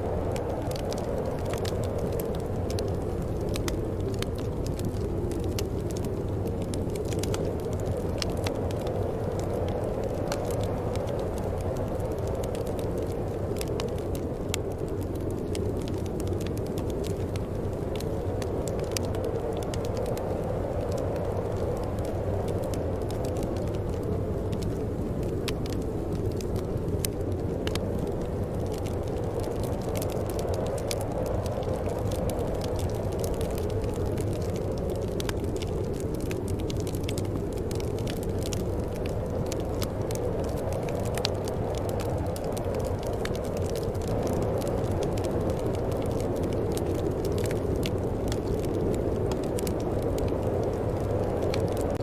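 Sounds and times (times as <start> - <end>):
low rumble of flames: 0.0 - 52.0
wood fire crackling: 0.0 - 52.0.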